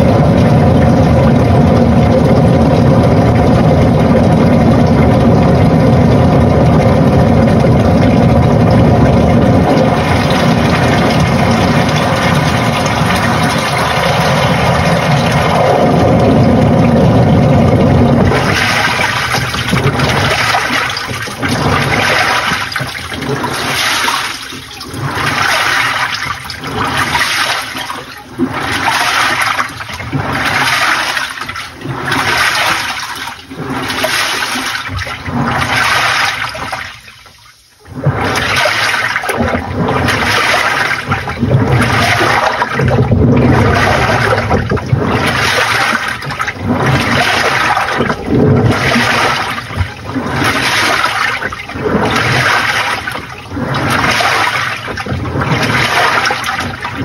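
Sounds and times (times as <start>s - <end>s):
water churning in washing machine: 0.0s - 57.0s.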